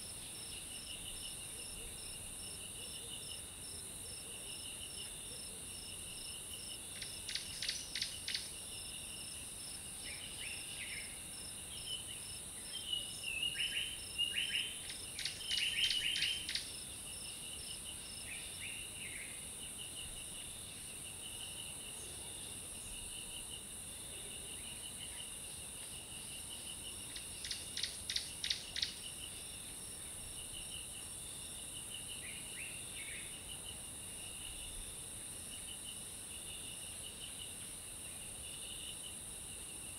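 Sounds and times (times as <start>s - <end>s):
high insect drone: 0.0s - 39.9s
pulsing insect trill: 0.0s - 39.9s.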